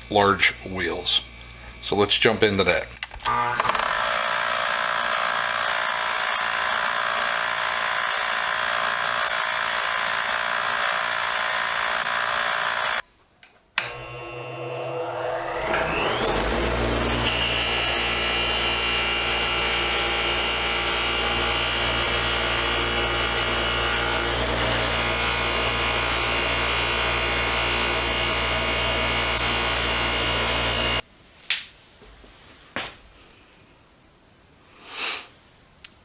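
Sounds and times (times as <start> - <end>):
abrasive finishing machine whining: 0.0 - 13.0, 13.8 - 31.0.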